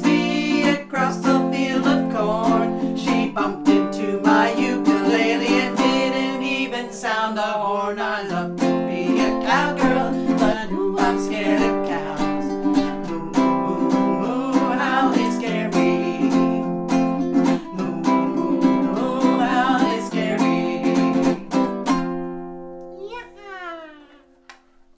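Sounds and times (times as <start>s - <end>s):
ukulele strummed: 0.0s - 7.4s, 8.1s - 24.3s
women singing: 0.0s - 21.5s.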